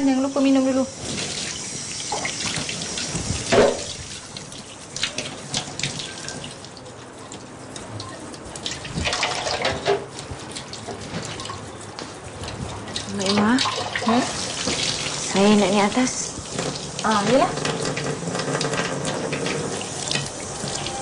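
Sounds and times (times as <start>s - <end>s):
water running from tap into sink: 0.0s - 21.0s.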